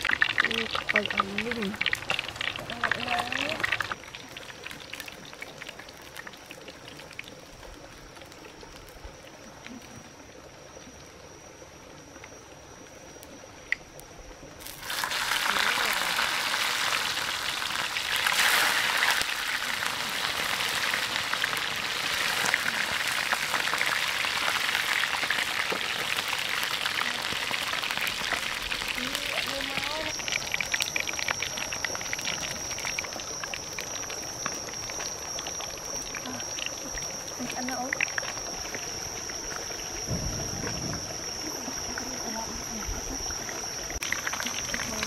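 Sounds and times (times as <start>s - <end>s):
fish sizzling in hot oil: 0.0s - 9.3s, 14.6s - 45.0s.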